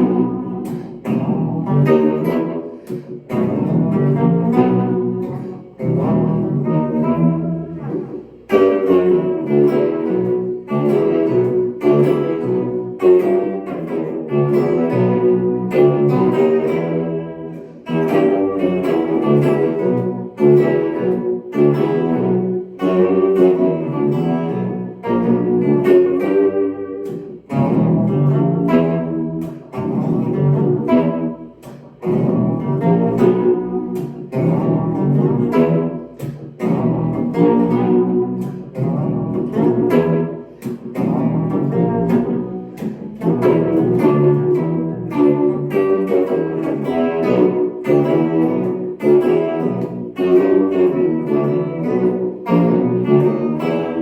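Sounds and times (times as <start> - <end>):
pitch-shifted electric guitar: 0.0 - 54.0.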